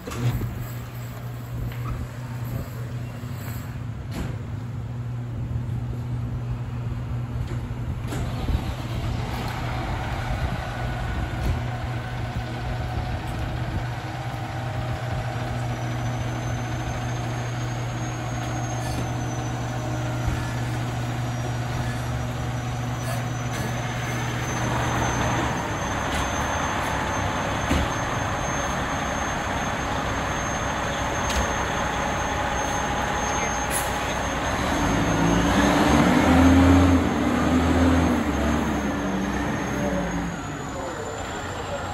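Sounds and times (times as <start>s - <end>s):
fire trucks idling: 0.0s - 41.9s.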